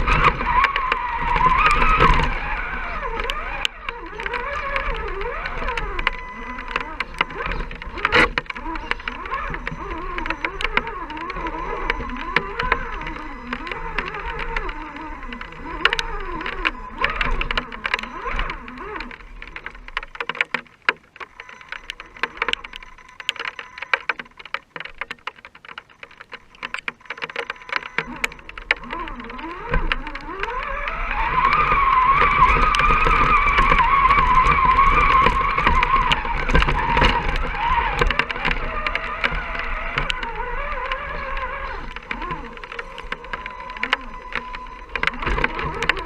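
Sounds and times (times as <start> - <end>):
electric motor whining: 0.0 - 46.0
sharp clicks and ticks: 0.0 - 46.0.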